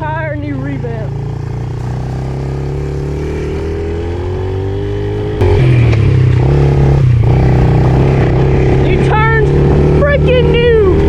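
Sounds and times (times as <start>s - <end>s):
pit bike engine running: 0.0s - 11.0s.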